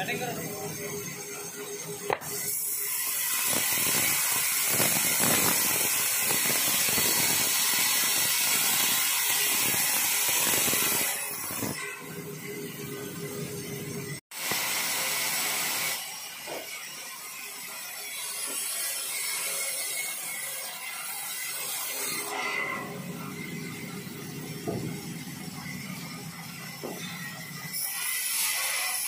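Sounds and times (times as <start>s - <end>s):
band saw cutting wood: 0.0s - 29.0s.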